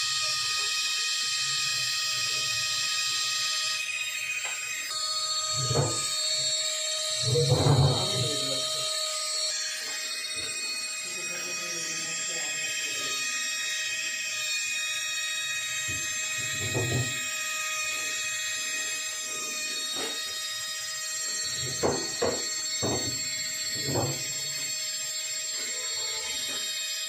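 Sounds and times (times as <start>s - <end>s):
rotary handpiece whining: 0.0s - 27.0s.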